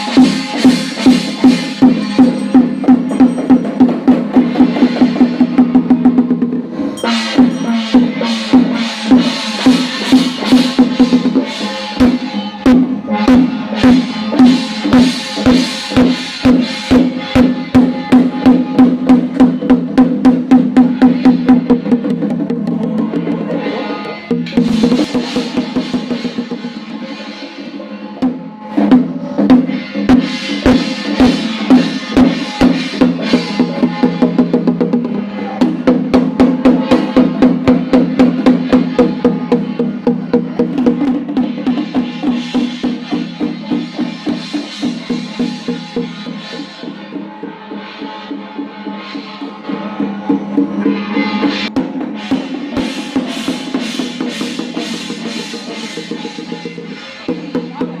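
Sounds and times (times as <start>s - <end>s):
drums in fast rhythm: 0.0s - 58.0s.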